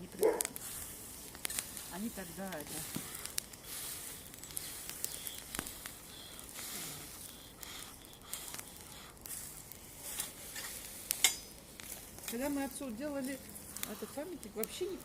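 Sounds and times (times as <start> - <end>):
bonfire hissing and crackling: 0.0 - 15.0.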